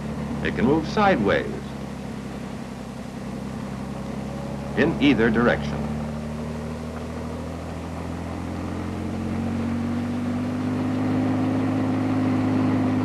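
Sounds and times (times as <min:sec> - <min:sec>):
helicopter hovering: 0:00.0 - 0:13.0.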